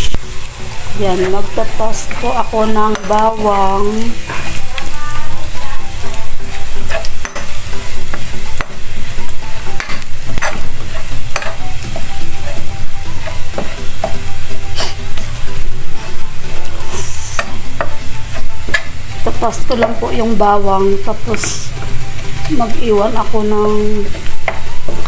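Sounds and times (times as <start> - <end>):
garlic sizzling in oil: 0.0 - 25.0.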